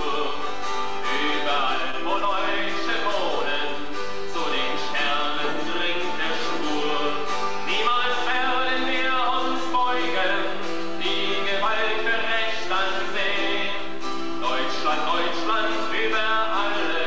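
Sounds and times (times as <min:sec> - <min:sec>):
acoustic guitar: 0:00.0 - 0:17.0
man singing: 0:00.0 - 0:17.0.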